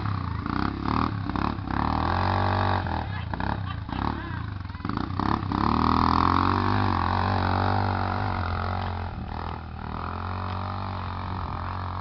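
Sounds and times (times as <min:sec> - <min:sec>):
quad engine under hard throttle: 0:00.0 - 0:12.0.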